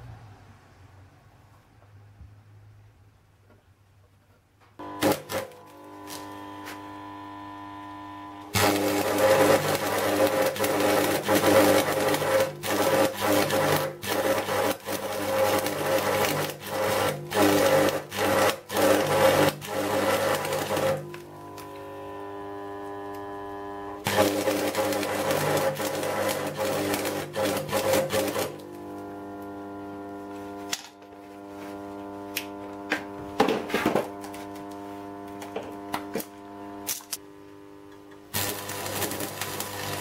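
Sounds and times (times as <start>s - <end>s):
welder hum: 4.8s - 40.0s
welding arc crackling and sizzling: 4.8s - 40.0s.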